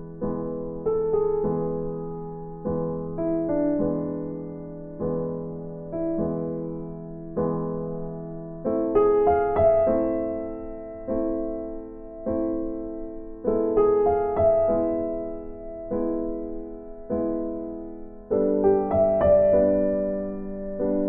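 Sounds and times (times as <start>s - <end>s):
soft slow piano music: 0.0s - 21.0s.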